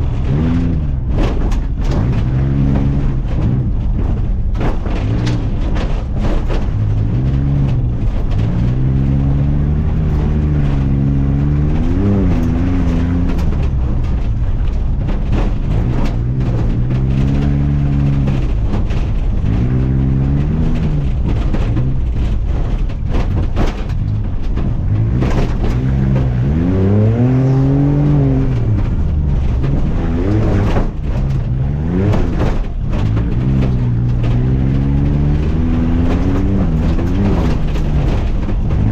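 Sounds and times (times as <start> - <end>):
knocks and clatter: 0.0 - 38.9
truck engine revving: 0.0 - 38.9.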